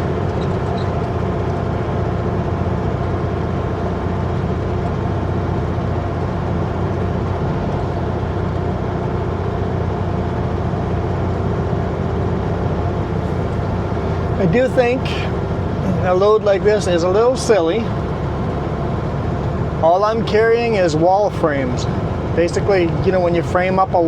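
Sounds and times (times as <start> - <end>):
road and tyre noise: 0.0 - 24.0
truck diesel engine running: 0.0 - 24.0.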